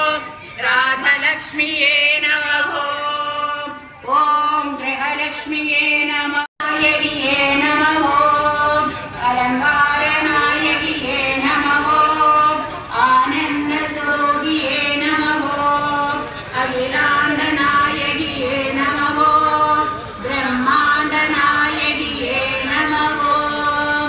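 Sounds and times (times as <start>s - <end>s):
women singing a chant: 0.0s - 24.0s.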